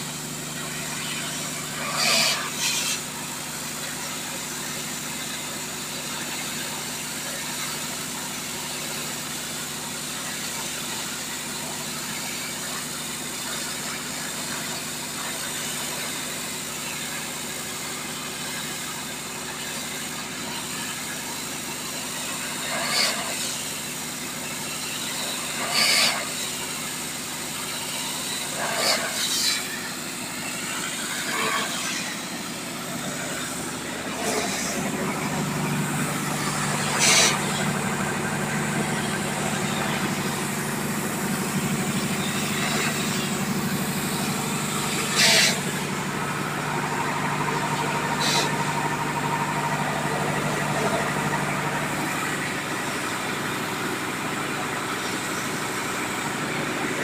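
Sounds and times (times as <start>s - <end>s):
high-pressure water jet hissing: 0.0s - 57.0s
pump unit drone: 0.0s - 57.0s.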